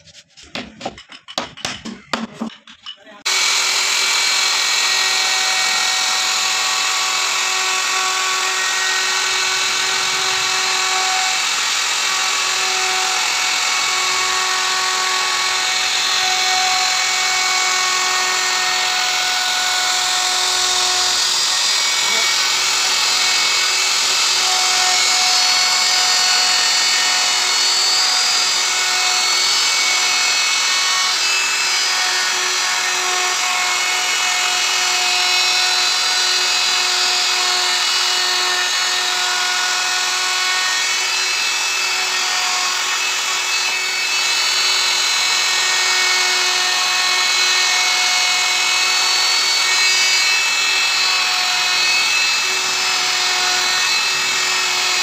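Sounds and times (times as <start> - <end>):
router whining: 3.2 - 55.0.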